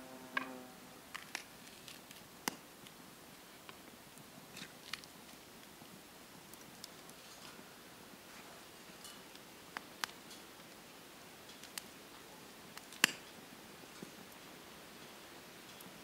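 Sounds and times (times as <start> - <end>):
faint steady hiss: 0.0 - 16.0
fire crackling and popping: 0.4 - 16.0.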